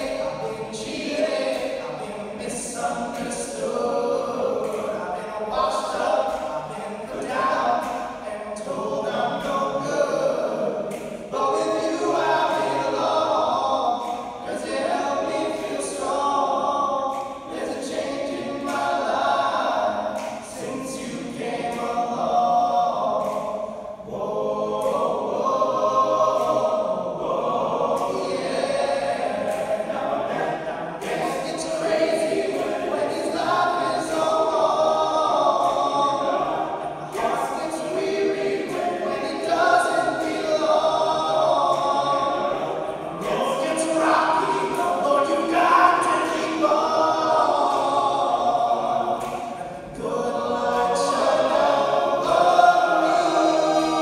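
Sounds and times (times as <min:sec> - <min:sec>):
male a cappella group singing: 0:00.0 - 0:54.0.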